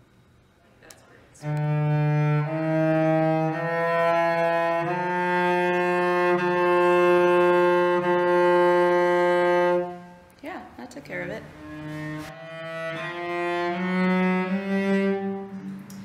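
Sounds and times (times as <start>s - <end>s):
cello bowed slowly: 1.4s - 10.2s, 11.3s - 16.0s.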